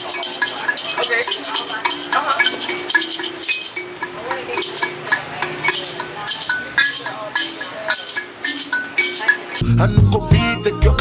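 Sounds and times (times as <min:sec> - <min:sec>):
shaker rhythm: 0:00.0 - 0:10.5.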